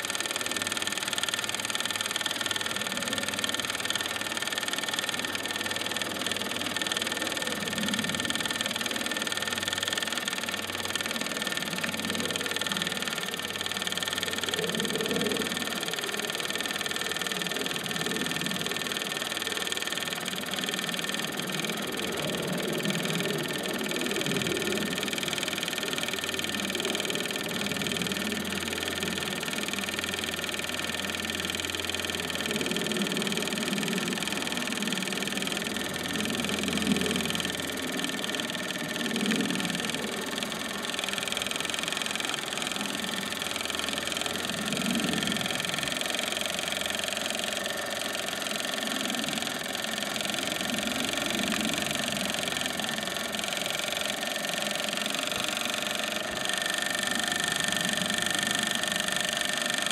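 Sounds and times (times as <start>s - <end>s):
model steam engine running: 0.0s - 59.9s.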